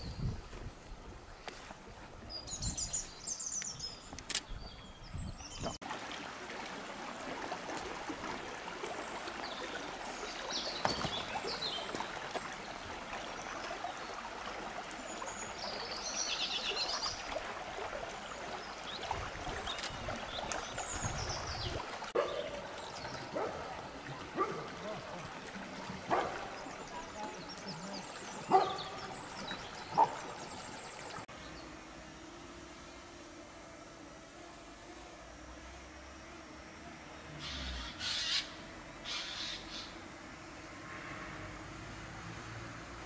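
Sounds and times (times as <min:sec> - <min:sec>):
stream flowing over shallows: 0:00.0 - 0:43.0.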